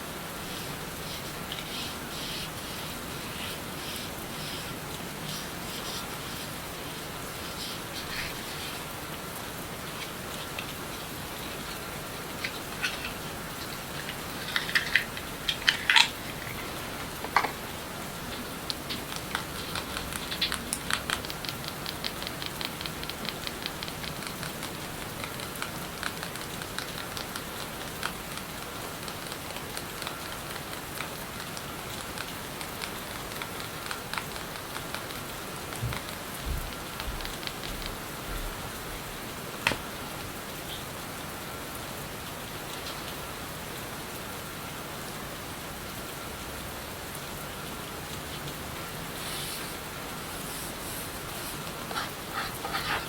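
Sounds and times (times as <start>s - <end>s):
rain hiss: 0.0s - 53.0s.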